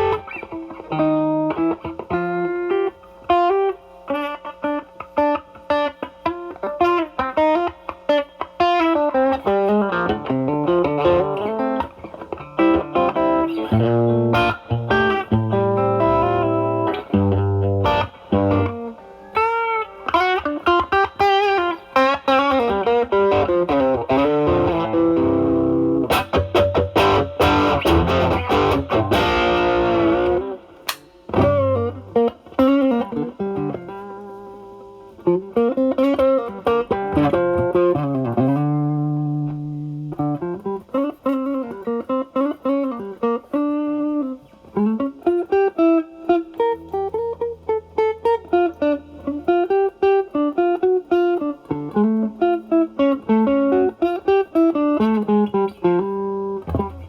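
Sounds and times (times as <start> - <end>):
overdriven electric guitar lead: 0.0 - 57.0.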